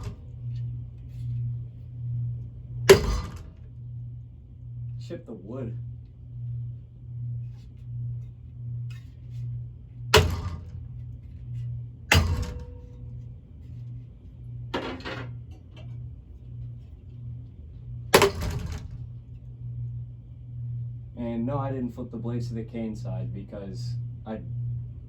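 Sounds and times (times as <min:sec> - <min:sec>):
ceiling fan motor humming: 0:00.0 - 0:25.0.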